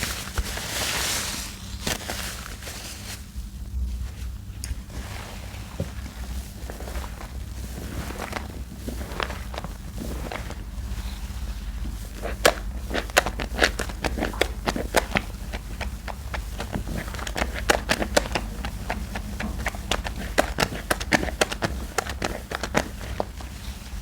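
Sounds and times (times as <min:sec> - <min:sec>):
hands squishing soap paste: 0:04.6 - 0:24.0.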